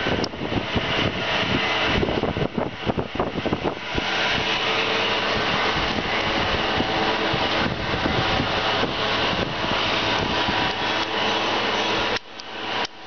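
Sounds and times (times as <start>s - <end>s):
air compressor drone: 0.0s - 13.0s.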